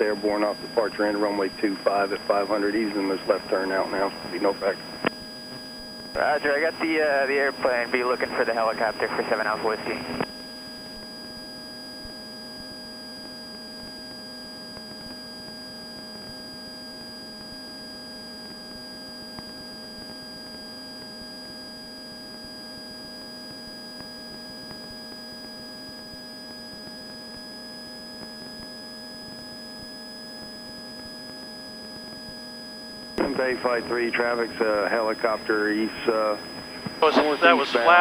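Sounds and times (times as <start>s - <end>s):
electronic whine: 0.0s - 38.0s
muffled engine and propeller drone: 0.0s - 38.0s.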